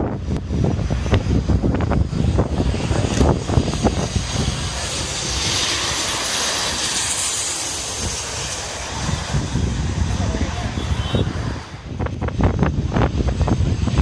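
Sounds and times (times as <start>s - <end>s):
jet plane passing overhead: 0.0s - 14.0s
wind gusts on microphone: 0.0s - 14.0s.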